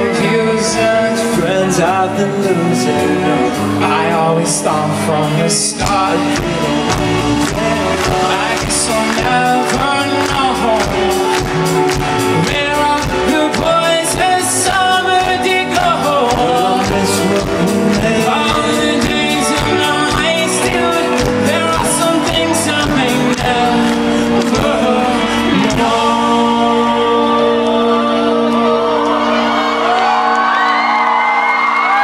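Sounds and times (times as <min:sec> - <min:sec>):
live pop-rock band: 0:00.0 - 0:32.0
person singing lead vocal: 0:00.0 - 0:32.0.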